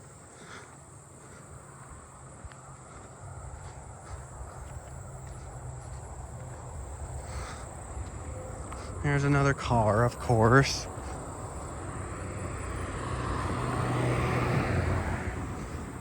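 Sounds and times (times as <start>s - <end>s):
car approaching: 0.0s - 16.0s
crickets and katydids chorus: 0.0s - 16.0s.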